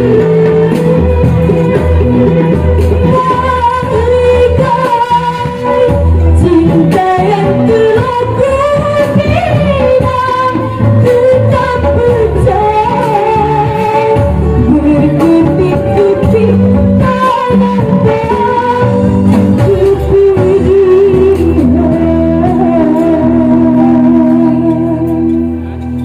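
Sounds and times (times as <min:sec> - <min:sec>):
backing music: 0:00.0 - 0:26.0
woman singing into microphone: 0:00.0 - 0:26.0.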